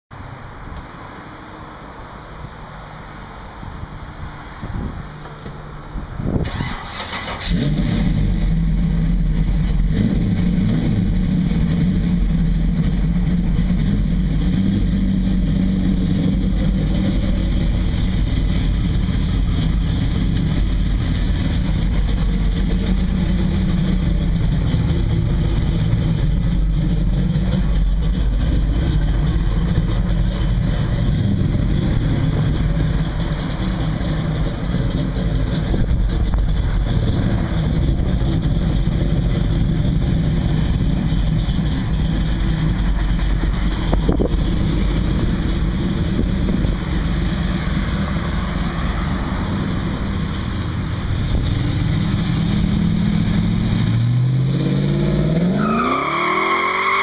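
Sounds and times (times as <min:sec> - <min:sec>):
car engine cranking and idling: 0:00.6 - 0:57.0.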